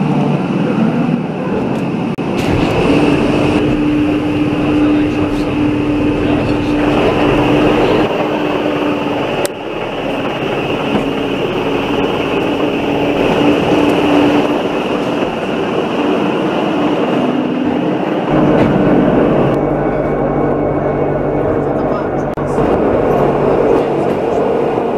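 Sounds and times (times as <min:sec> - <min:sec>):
railcar running noise: 0:00.0 - 0:24.9
drive whine: 0:01.8 - 0:24.9.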